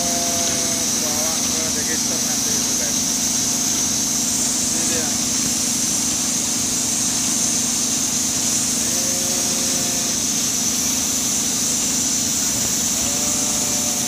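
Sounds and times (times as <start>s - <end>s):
high machinery hiss: 0.0s - 14.0s
industrial machinery din: 0.0s - 14.0s
low machinery hum: 0.0s - 14.0s.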